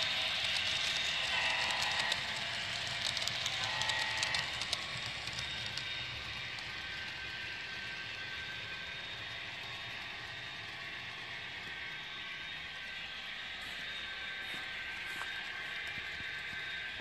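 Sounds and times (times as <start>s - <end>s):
model train wheels clicking: 0.0s - 17.0s
train running hum: 0.0s - 17.0s.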